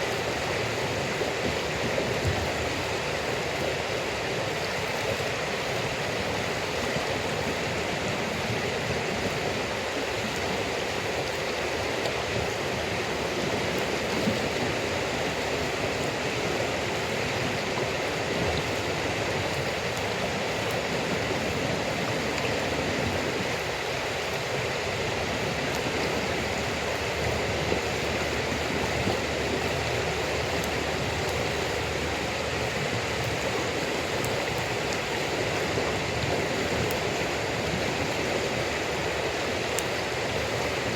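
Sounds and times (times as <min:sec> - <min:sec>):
campfire crackles: 0:00.0 - 0:40.9
rushing running water: 0:00.0 - 0:40.9.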